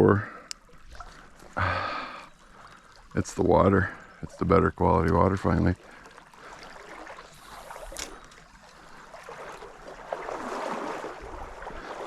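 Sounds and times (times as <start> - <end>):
stream water trickling: 0.0 - 12.0.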